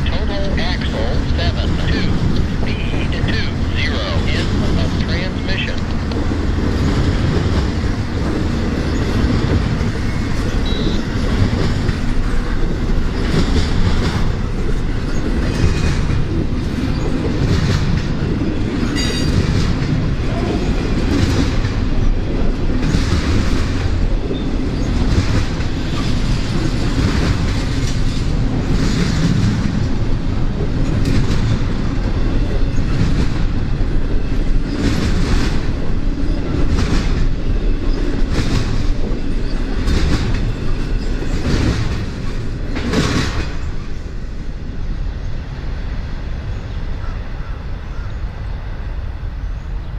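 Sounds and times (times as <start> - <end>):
freight train wheels clattering: 0.0 - 45.3.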